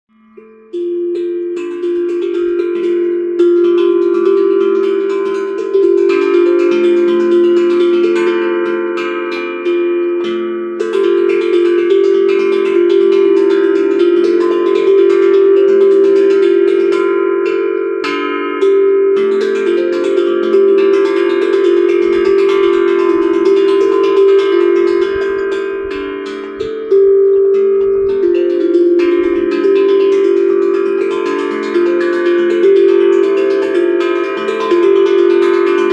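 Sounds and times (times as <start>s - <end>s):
steel tongue drum melody: 0.1s - 35.9s.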